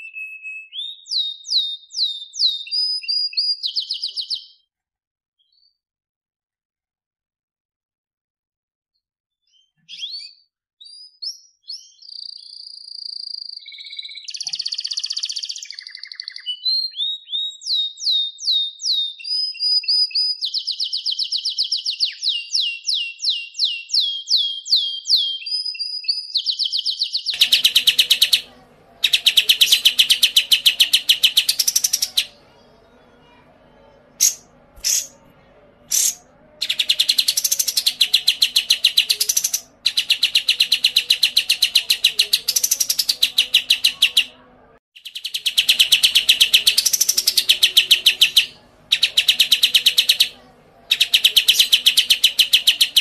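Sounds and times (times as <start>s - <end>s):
songbird singing: 0.0s - 4.6s, 9.6s - 44.4s, 45.0s - 53.0s.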